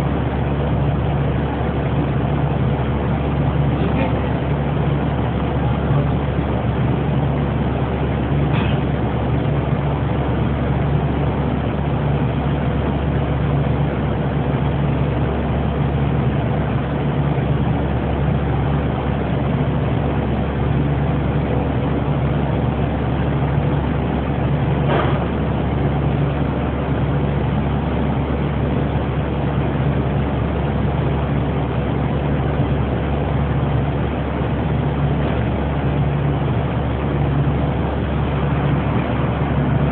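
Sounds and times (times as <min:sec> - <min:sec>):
machinery drone: 0:00.0 - 0:39.9.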